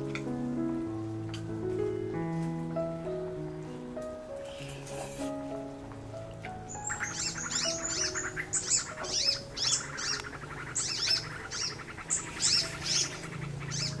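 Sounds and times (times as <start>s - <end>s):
soft background music: 0.0s - 14.0s
small birds chirping: 0.8s - 14.0s.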